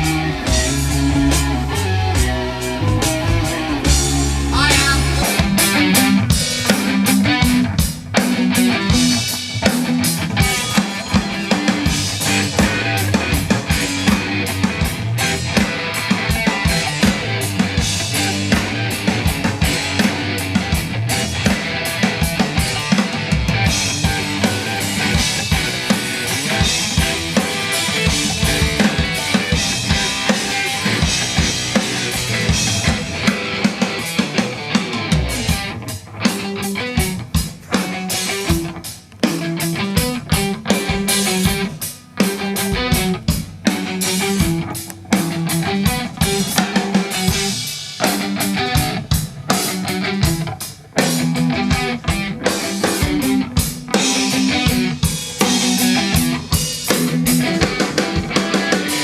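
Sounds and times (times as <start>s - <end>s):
loud rock music: 0.0s - 59.0s.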